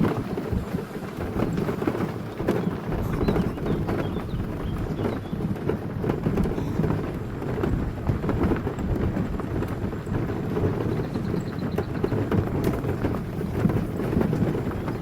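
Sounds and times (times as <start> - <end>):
tyres crunching over gravel: 0.0 - 15.0.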